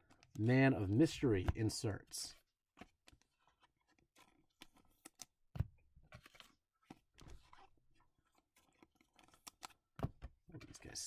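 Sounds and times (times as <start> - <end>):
cards rustling in plastic sleeves: 0.0 - 11.0.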